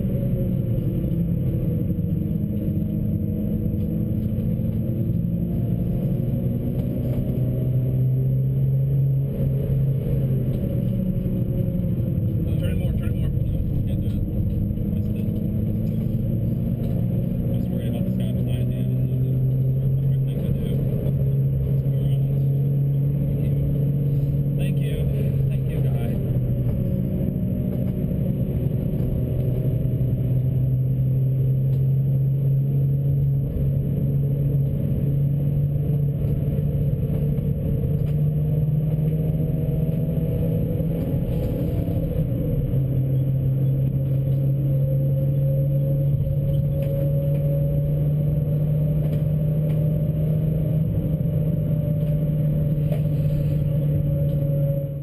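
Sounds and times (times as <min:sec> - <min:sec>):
car engine running hard: 0:00.0 - 0:55.0
road noise: 0:00.0 - 0:55.0.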